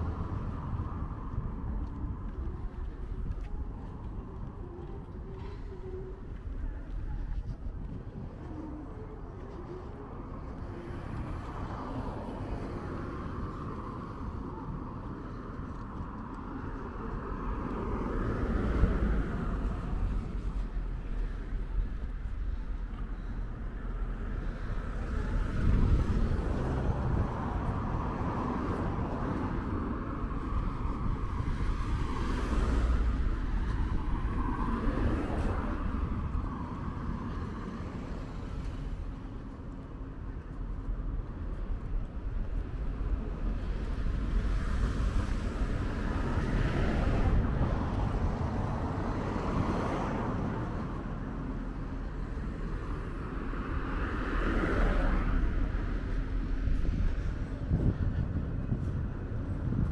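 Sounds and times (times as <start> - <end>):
cars passing by: 0.0 - 59.9
low traffic rumble: 0.0 - 59.9.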